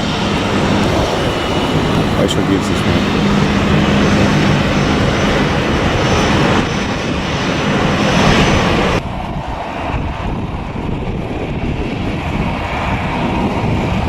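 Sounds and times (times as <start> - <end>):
aircraft engine roar: 0.0 - 14.0.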